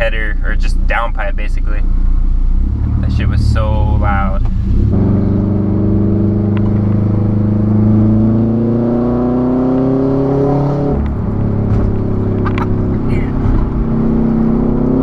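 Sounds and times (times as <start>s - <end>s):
exhaust crackles: 0.0s - 15.0s
car exhaust revving: 1.7s - 15.0s.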